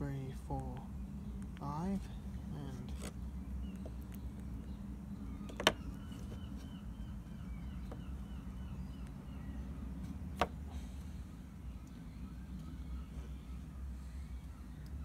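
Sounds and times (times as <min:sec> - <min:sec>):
bird chirping: 0:00.0 - 0:15.0
low outdoor rumble: 0:00.0 - 0:15.0.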